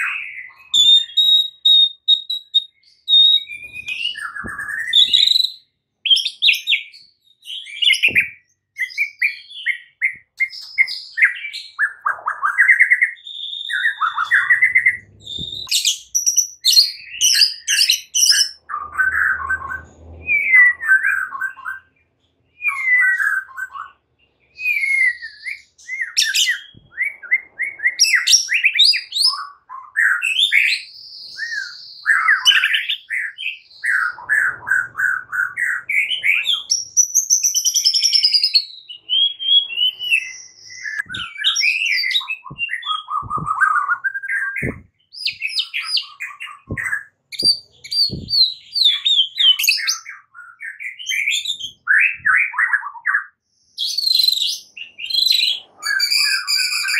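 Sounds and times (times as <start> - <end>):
bird singing whistles and trills: 0.0 - 56.9.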